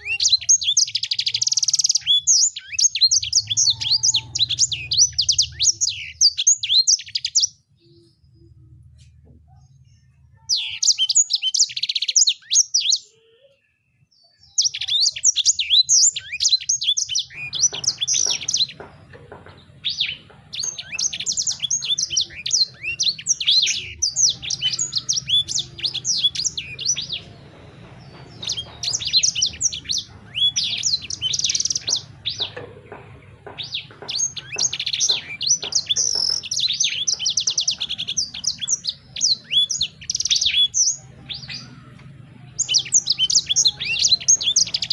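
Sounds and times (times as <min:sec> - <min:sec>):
songbird chattering chirps: 0:00.0 - 0:44.9.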